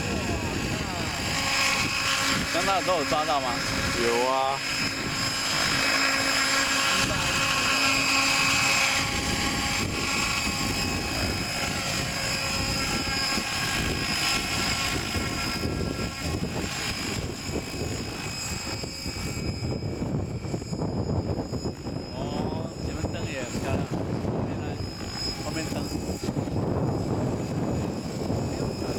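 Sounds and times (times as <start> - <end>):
model helicopter whine: 0.0 - 28.9
rotor rushing: 0.0 - 28.9
wind buffeting microphone: 0.0 - 28.9.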